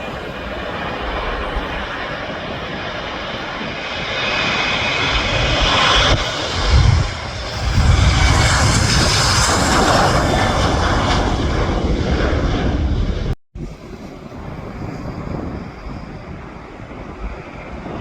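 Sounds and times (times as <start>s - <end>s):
aircraft engines running: 0.0s - 18.0s
wind rumble on microphone: 0.0s - 18.0s.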